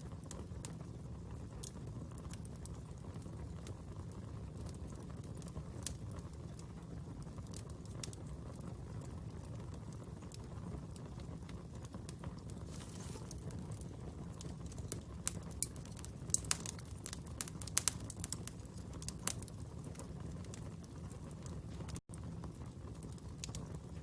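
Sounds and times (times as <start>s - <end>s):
fire crackling: 0.0s - 24.0s
fire popping: 0.0s - 24.0s.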